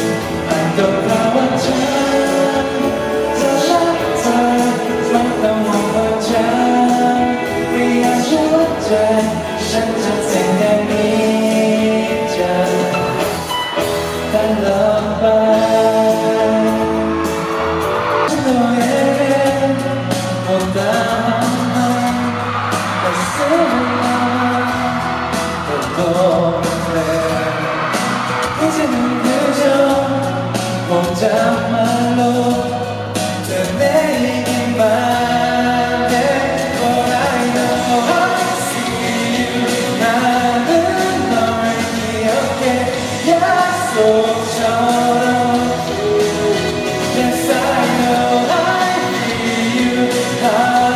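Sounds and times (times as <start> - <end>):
instrumental backing music: 0.0 - 50.9
man singing into microphone: 0.0 - 50.9.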